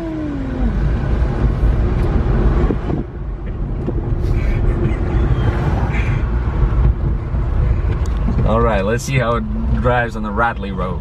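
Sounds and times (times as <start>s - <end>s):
low road rumble: 0.0s - 11.0s.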